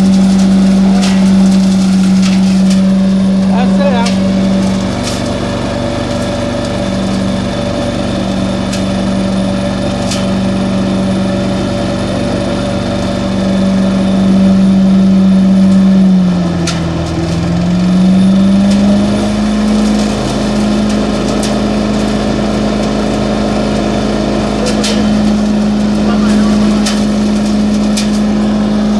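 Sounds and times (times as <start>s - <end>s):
street cleaning vacuum engine: 0.0s - 28.9s.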